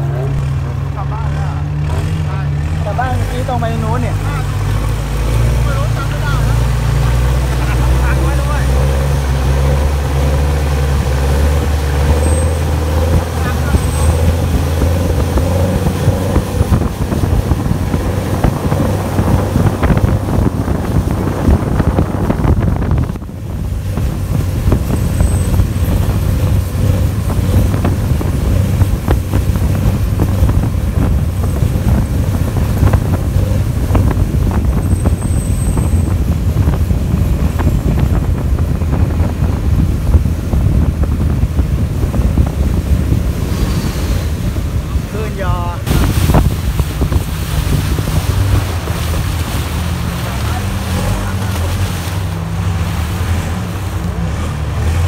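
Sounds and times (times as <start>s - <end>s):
boat engine running: 0.0s - 55.0s
wind buffeting microphone: 3.0s - 55.0s.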